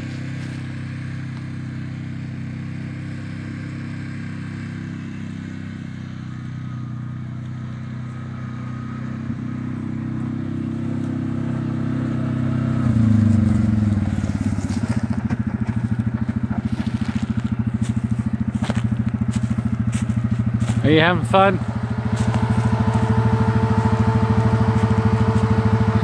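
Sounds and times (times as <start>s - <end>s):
utv engine running: 0.0s - 26.0s.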